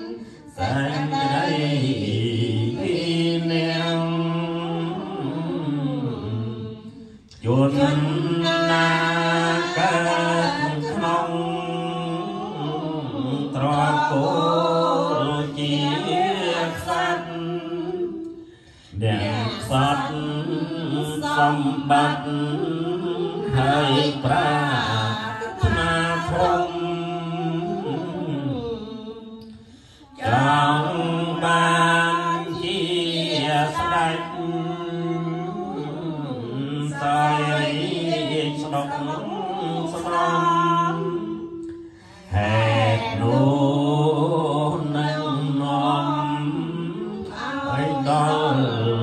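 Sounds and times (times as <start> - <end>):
group chanting in unison: 0.0 - 49.0.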